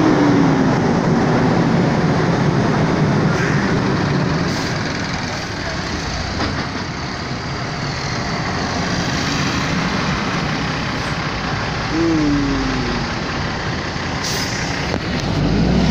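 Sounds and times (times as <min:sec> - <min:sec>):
vehicle road and engine noise: 0:00.0 - 0:15.9.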